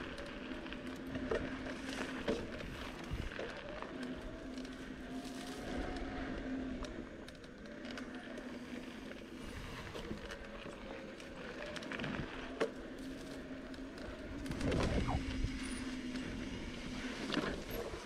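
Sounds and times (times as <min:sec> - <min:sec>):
bicycle rattling over bumps: 0:00.0 - 0:18.0
bicycle tyres on sand: 0:00.0 - 0:18.0
steady wavering hum: 0:00.0 - 0:18.0.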